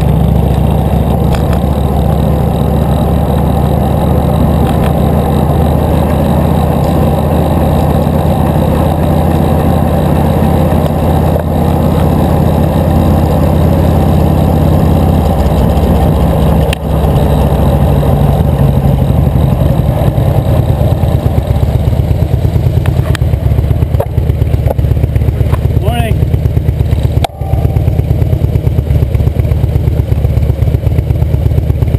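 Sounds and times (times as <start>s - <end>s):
traffic engines rumbling: 0.0s - 31.9s.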